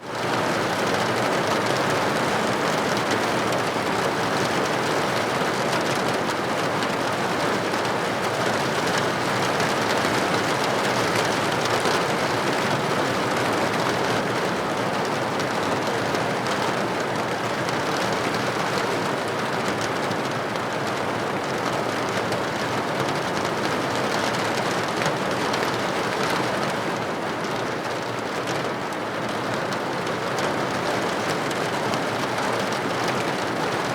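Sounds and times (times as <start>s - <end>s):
heavy rain: 0.0s - 33.9s
raindrops tapping on leaves: 0.1s - 33.9s.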